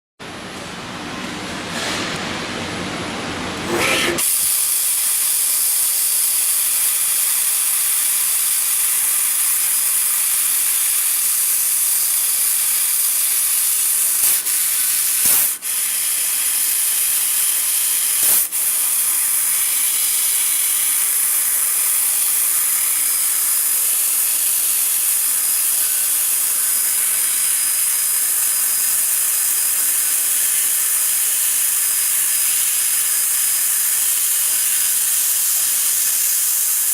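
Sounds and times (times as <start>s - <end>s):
laser cutter gas hissing: 3.6s - 36.9s.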